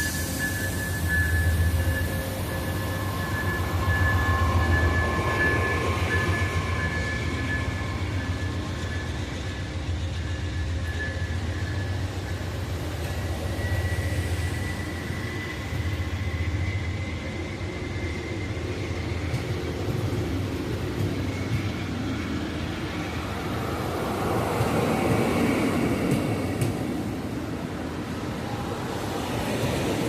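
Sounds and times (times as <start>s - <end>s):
high wavering whine: 0.0s - 30.0s
train engine rumble: 0.0s - 30.0s.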